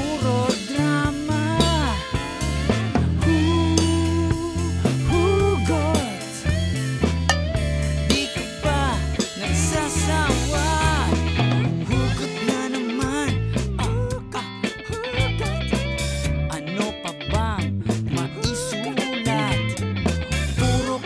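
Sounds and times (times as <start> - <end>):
bass guitar: 0.0 - 21.0
drum kit: 0.0 - 21.0
electric guitar with bent notes: 0.0 - 21.0.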